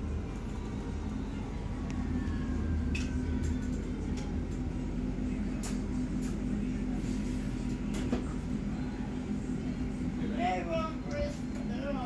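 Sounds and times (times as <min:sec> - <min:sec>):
bus engine hum: 0:00.0 - 0:12.0.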